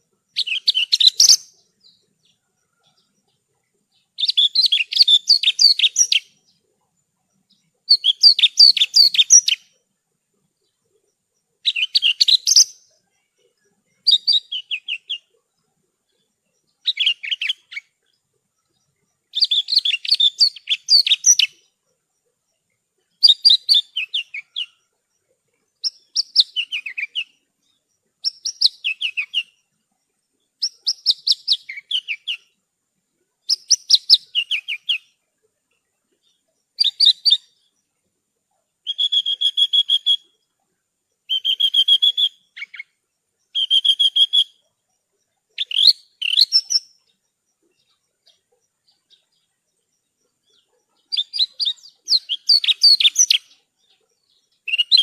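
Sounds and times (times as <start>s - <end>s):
bird chirping song: 0.0s - 55.0s.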